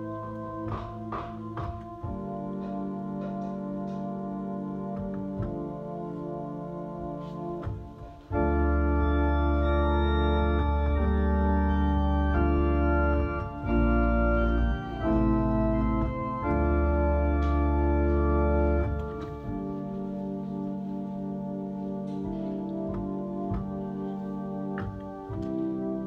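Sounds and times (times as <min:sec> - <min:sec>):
deep organ pedal bass: 0:00.0 - 0:26.0
organ playing held chords: 0:00.0 - 0:26.0.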